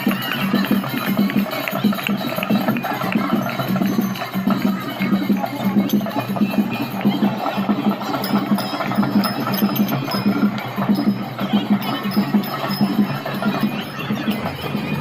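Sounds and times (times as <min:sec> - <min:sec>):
dhol drum beating: 0:00.0 - 0:15.0
metallic jingling: 0:00.0 - 0:15.0.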